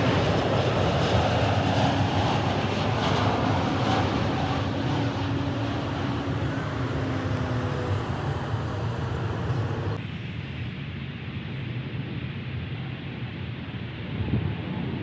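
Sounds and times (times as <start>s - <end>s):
jet engines roaring: 0.0s - 12.6s.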